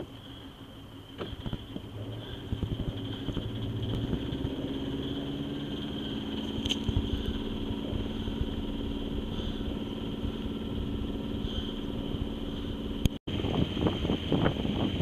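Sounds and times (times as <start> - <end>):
boat engine running: 0.0 - 15.0
gusty wind: 1.3 - 15.0.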